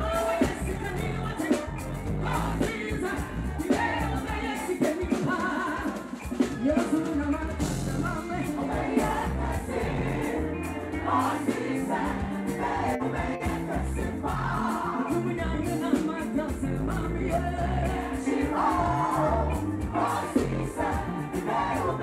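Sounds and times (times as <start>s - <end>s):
backing singers: 0.0s - 22.0s
gospel band playing: 0.0s - 22.0s
woman singing lead: 0.0s - 22.0s.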